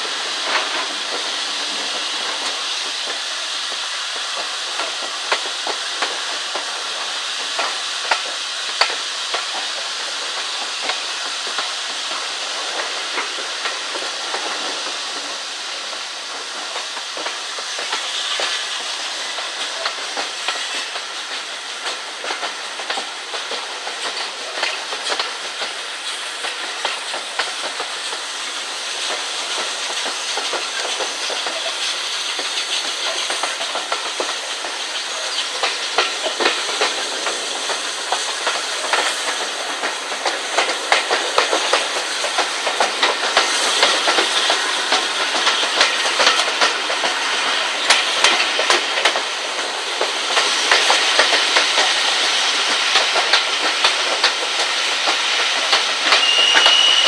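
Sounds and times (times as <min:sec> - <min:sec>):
train rushing noise: 0:00.0 - 0:57.0.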